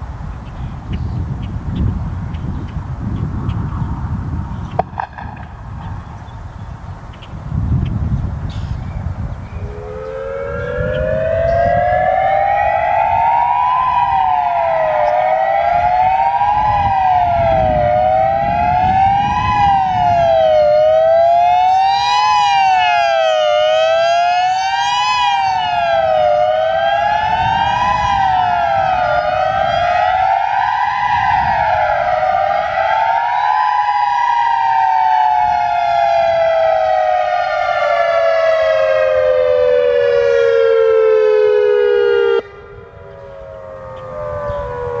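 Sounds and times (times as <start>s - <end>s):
outdoor warning siren wailing: 0.0s - 7.9s, 9.1s - 45.0s
distant siren: 0.0s - 45.0s.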